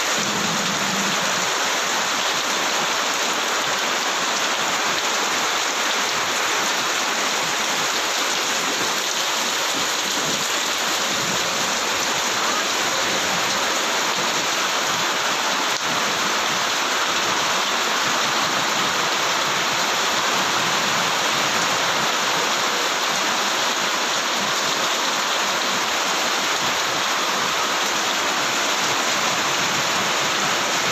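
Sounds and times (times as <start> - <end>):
very heavy rain: 0.0 - 30.9.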